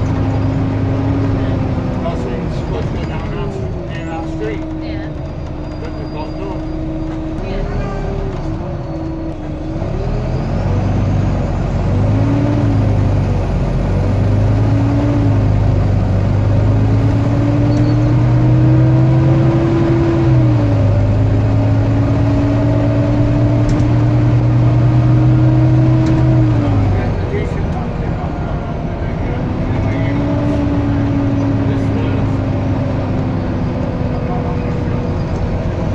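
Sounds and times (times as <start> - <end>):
bus diesel engine droning: 0.0 - 35.9.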